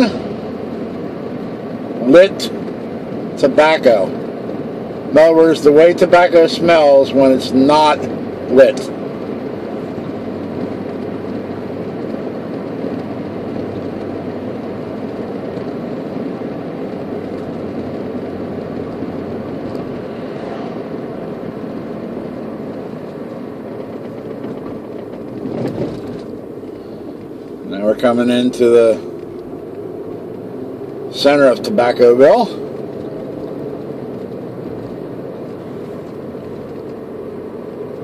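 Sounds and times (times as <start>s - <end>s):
car road noise from inside: 0.0s - 38.0s.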